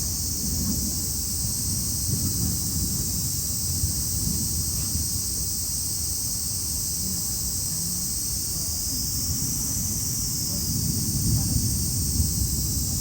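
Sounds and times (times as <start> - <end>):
wind rumble on microphone: 0.0 - 6.0, 7.0 - 13.0
cicadas chorus: 0.0 - 13.0.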